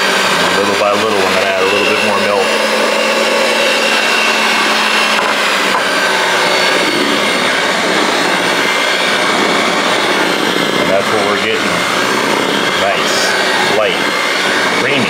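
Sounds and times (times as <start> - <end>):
electric hand mixer whipping: 0.0 - 15.0.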